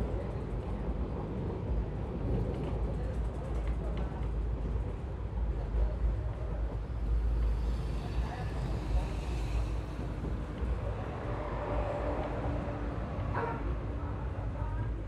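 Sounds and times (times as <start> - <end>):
train wheels rumbling on rails: 0.0 - 13.6.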